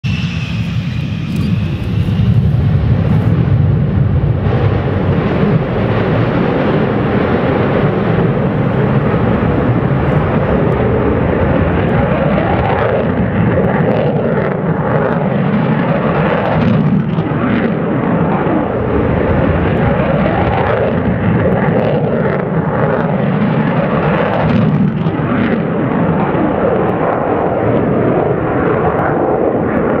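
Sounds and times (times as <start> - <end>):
jet roaring past: 0.0 - 30.0.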